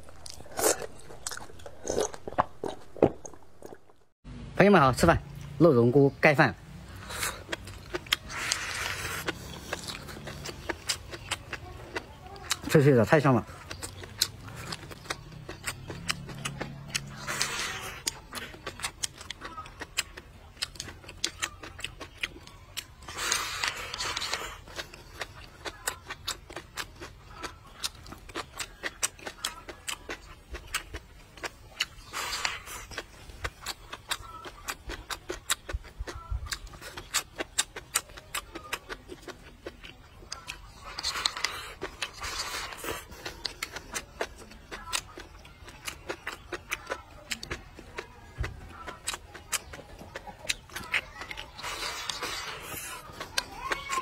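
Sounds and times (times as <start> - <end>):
chewing crunchy food: 0.0 - 4.2, 6.6 - 54.0.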